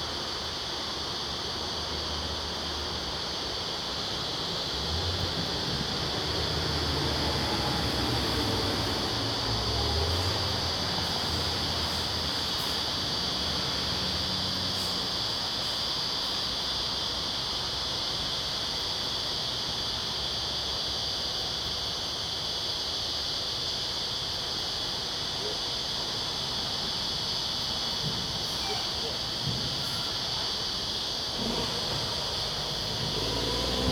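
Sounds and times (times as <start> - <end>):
high-pitched hiss: 0.0 - 33.9.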